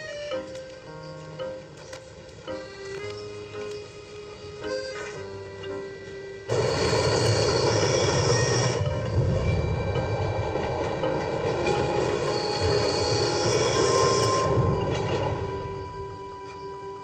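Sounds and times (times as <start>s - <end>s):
train running through tunnel: 0.0s - 17.0s.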